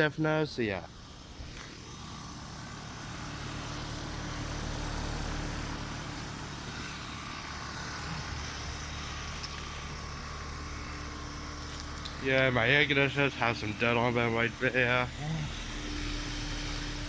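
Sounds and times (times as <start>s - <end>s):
air conditioner unit humming: 0.0s - 17.0s.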